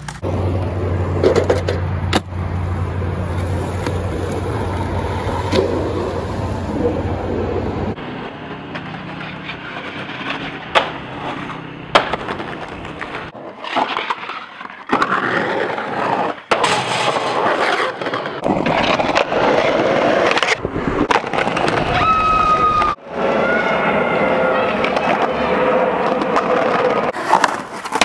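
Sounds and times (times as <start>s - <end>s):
skateboard popping and landing: 0.0s - 7.1s, 8.6s - 22.2s, 24.7s - 28.0s
skateboard wheels rolling on concrete: 0.0s - 28.0s.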